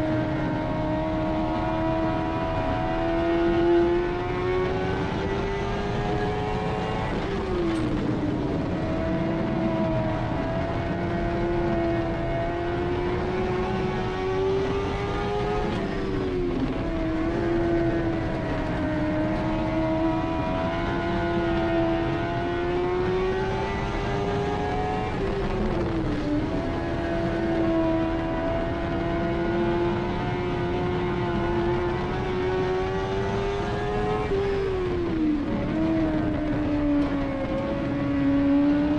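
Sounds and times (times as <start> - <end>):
race car engine: 0.0 - 38.9.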